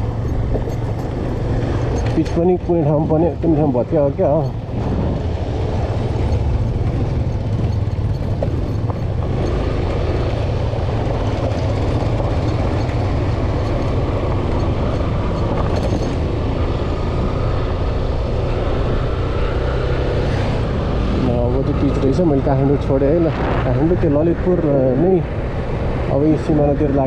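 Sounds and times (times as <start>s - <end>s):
motorcycle engine running: 0.0s - 24.2s
wind and road noise: 0.0s - 27.0s.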